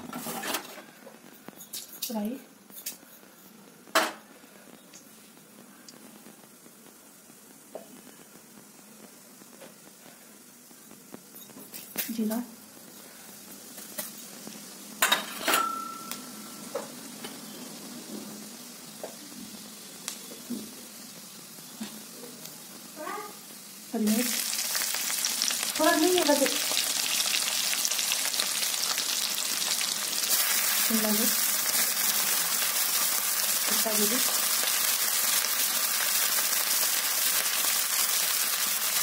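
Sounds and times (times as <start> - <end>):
loud steady sizzle: 0.0 - 39.0
seeds frying in oil: 1.4 - 39.0.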